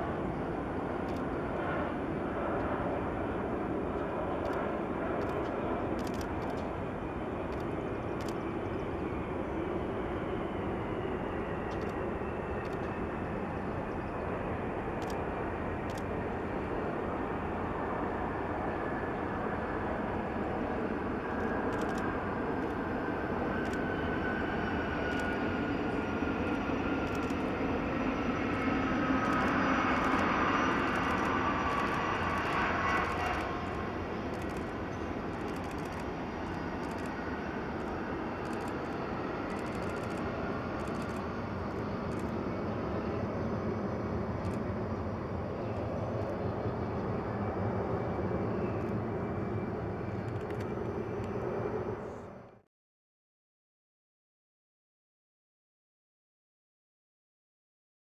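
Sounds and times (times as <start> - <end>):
jet engines running: 0.0 - 52.6
jet engine whine: 0.0 - 52.7.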